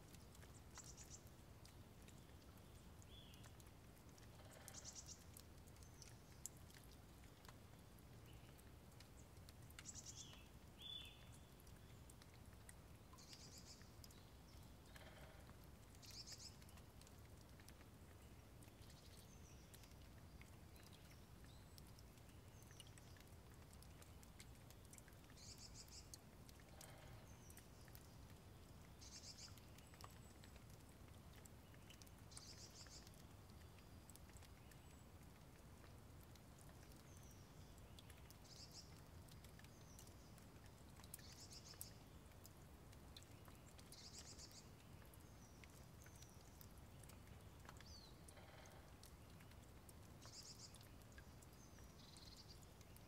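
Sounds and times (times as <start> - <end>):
soft ticks: 0.0 - 53.0.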